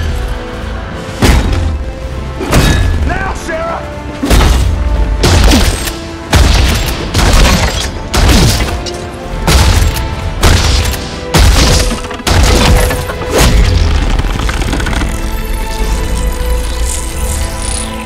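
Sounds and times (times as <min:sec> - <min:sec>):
dramatic film score music: 0:00.0 - 0:18.0.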